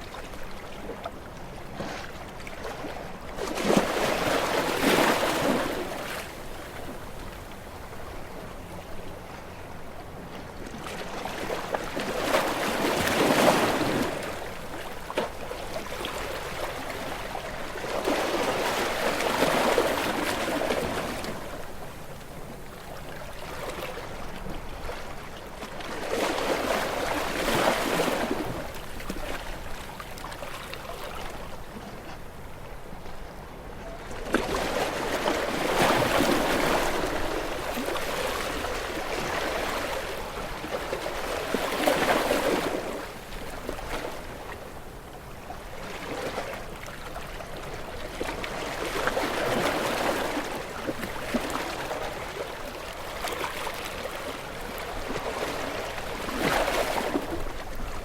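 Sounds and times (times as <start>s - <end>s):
sea waves breaking on rocks: 2.0s - 7.4s, 10.9s - 21.9s, 23.0s - 31.3s, 34.1s - 44.8s, 45.8s - 58.0s.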